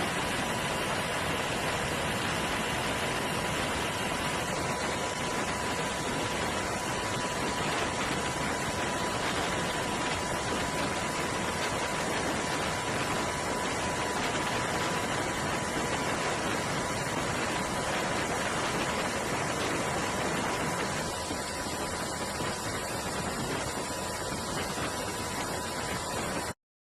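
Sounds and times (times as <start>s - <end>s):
wind and sea rushing: 0.0s - 26.6s.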